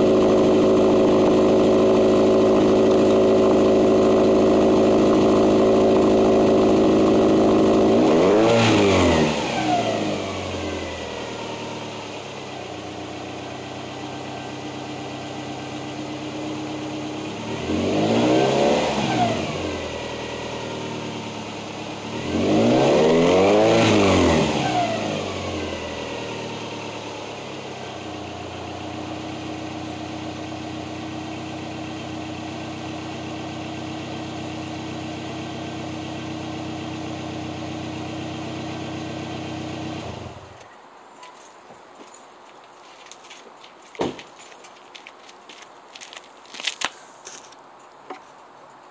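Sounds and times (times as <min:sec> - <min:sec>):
car engine revving and idling: 0:00.0 - 0:40.6.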